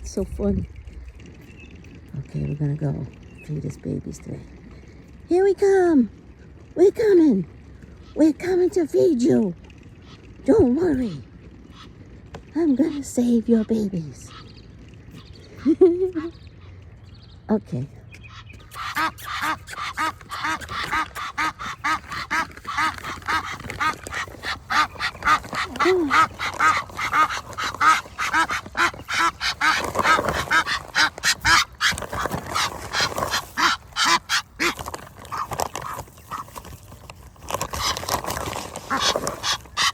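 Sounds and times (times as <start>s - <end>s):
ducks calling: 6.4s - 17.4s, 18.0s - 39.9s.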